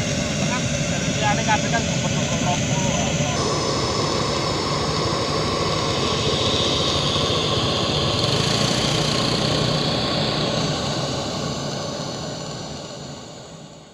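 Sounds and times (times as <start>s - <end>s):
engine idling: 0.0s - 13.6s.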